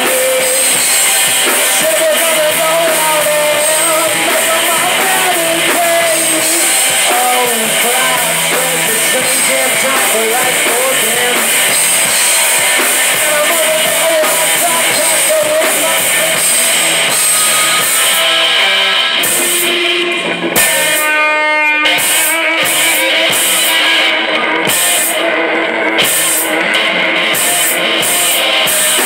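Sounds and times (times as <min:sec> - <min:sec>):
bass guitar: 0:00.0 - 0:29.0
drum kit: 0:00.0 - 0:29.0
electric guitars: 0:00.0 - 0:29.0.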